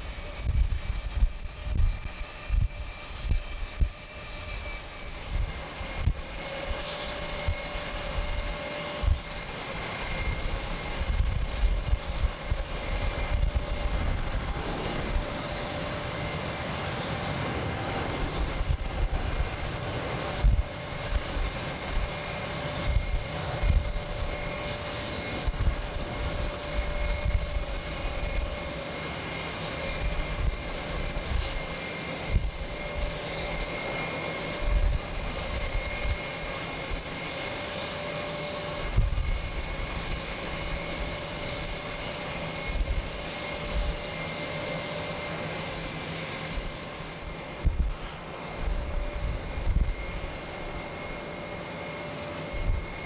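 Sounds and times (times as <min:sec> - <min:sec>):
wind buffeting microphone: 0:00.0 - 0:51.4
jet airliner taking off: 0:00.0 - 0:53.0.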